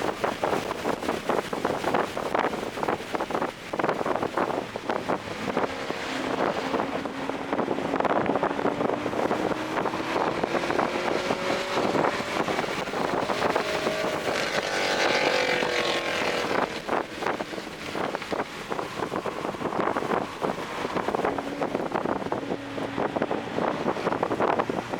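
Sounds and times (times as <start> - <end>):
wind buffeting microphone: 0.0 - 24.9
car engine accelerating: 2.2 - 24.9.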